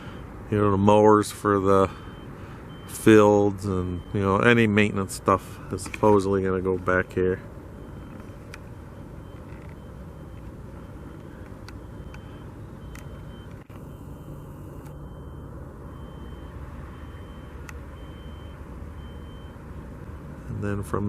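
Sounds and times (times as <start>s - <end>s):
vehicle reversing alarm beeping: 0.0s - 21.0s.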